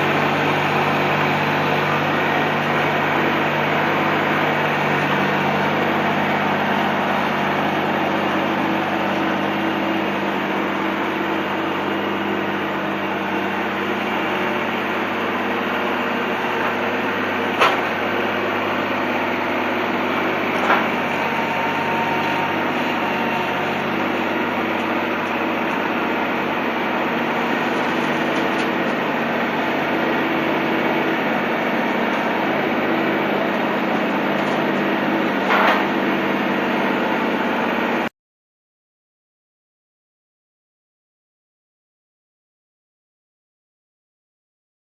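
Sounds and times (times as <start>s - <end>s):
engine running steadily: 0.0s - 38.1s.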